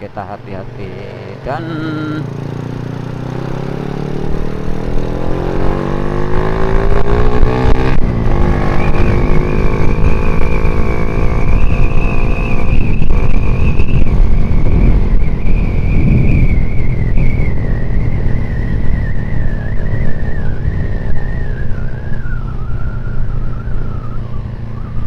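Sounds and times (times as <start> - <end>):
motorcycle engine revving: 0.4 - 25.0.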